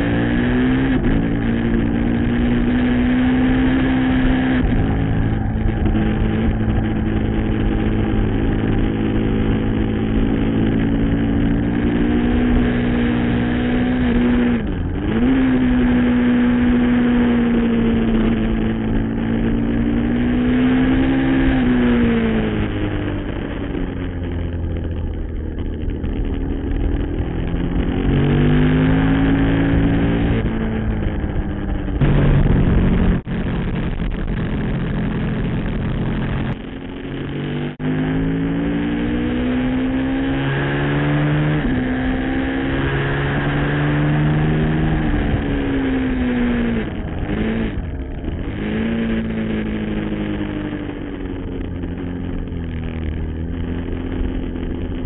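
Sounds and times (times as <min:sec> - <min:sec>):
wind rush: 0:00.0 - 0:53.9
motorcycle engine revving: 0:00.0 - 0:55.0.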